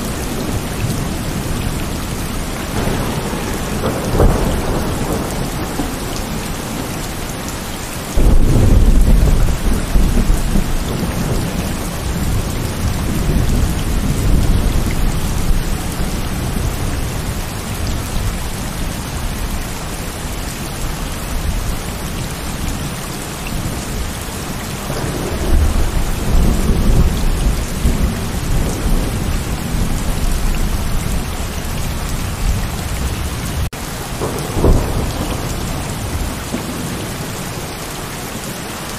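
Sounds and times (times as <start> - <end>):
thunder cracking and rumbling: 0.0 - 22.9, 23.5 - 37.7
heavy rain pouring: 0.0 - 38.9.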